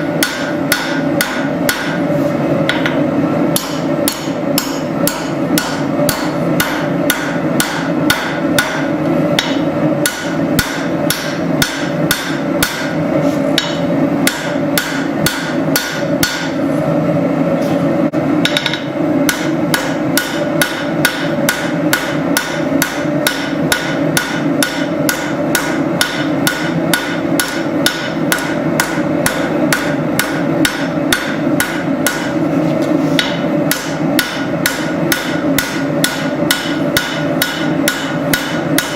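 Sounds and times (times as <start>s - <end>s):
hammer on hot steel on anvil: 0.0s - 2.1s, 2.7s - 16.6s, 18.4s - 32.4s, 33.2s - 38.9s
steady hum: 0.0s - 38.9s.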